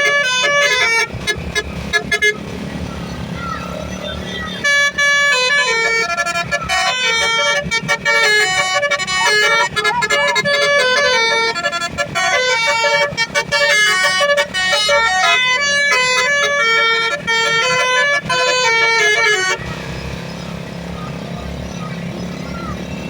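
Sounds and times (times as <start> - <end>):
bus horn playing a tune: 0.0 - 20.2.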